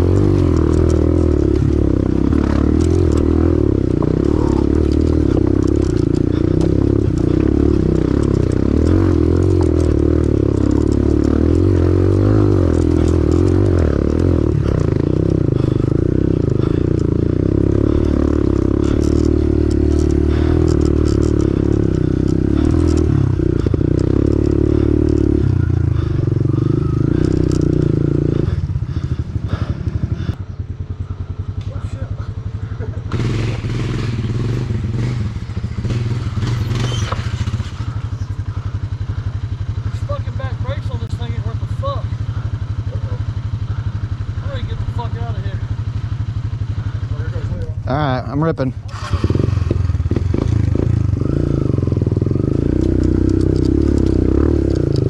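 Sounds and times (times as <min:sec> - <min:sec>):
bike rattling and scraping: 0:00.0 - 0:55.0
dirt bike engine: 0:00.0 - 0:55.0.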